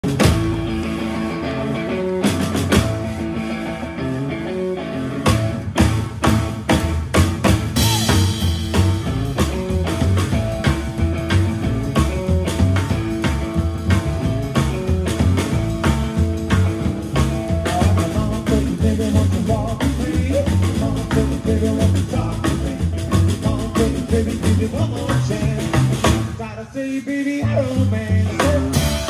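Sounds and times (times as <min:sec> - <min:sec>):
drum kit beat: 0:00.0 - 0:03.6, 0:05.2 - 0:26.5, 0:27.5 - 0:29.0
electric guitar: 0:00.0 - 0:29.0
upright bass: 0:00.0 - 0:29.0.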